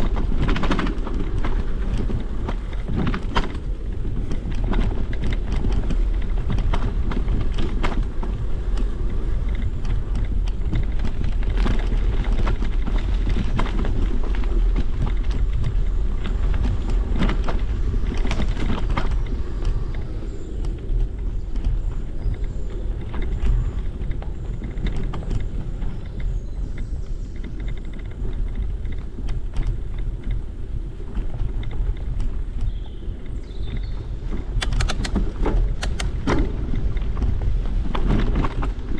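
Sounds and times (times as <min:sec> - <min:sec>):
bicycle rattling over ground: 0:00.0 - 0:38.9
wind buffeting microphone: 0:00.0 - 0:38.9.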